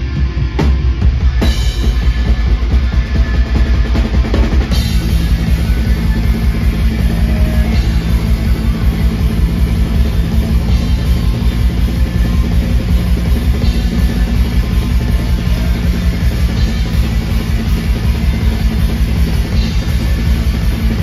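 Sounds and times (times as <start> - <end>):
black metal band playing live: 0.0 - 21.0.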